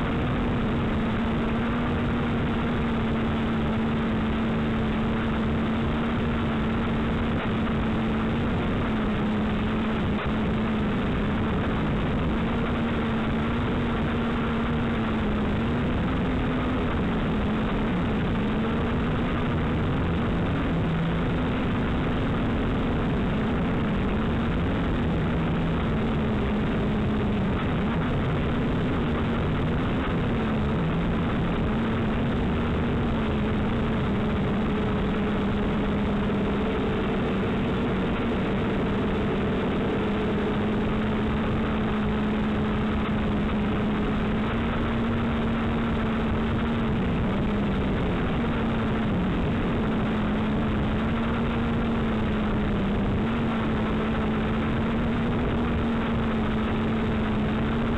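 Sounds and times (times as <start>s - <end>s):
drone motors droning: 0.0s - 57.9s.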